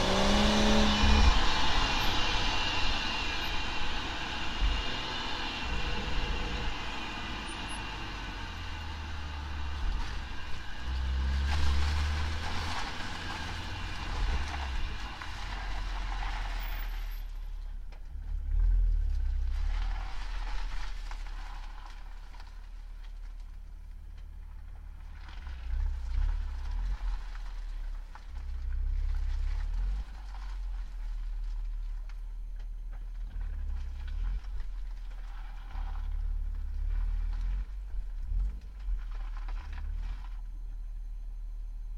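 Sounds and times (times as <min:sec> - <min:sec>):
vehicle driveline low rumble: 0:00.0 - 0:41.9.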